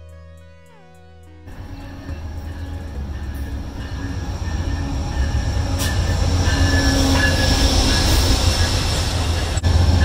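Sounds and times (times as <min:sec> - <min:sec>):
diesel train passing: 0:01.5 - 0:10.0.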